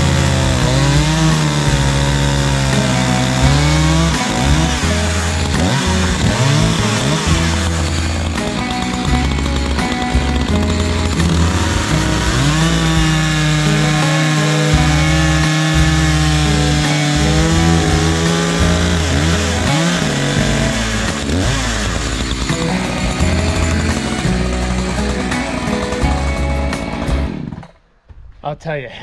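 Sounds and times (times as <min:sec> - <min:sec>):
chainsaw cutting wood: 0:00.0 - 0:27.7.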